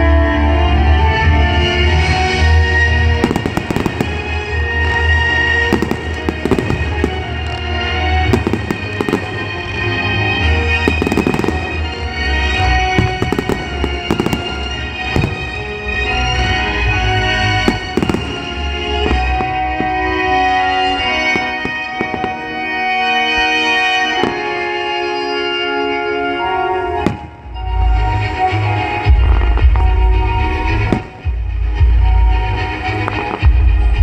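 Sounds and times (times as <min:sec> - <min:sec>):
music playing: 0:00.0 - 0:34.0
fireworks bursting and crackling: 0:01.8 - 0:34.0.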